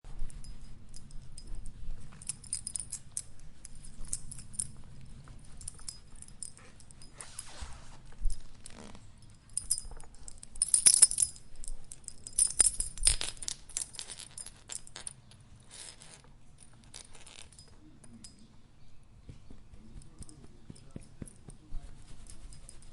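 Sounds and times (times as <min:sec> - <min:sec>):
dog collar jingling: 0:00.1 - 0:18.5, 0:19.8 - 0:22.9.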